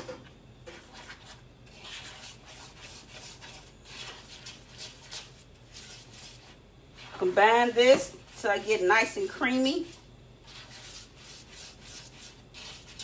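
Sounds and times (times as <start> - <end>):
batter stirred in a bowl: 0.0 - 13.0.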